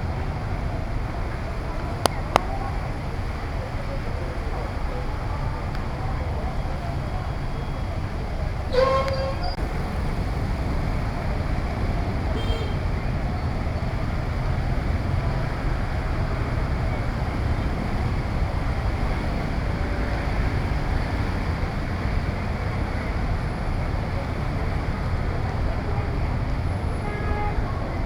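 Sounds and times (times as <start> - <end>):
traffic on wet roads: 0.0 - 28.0.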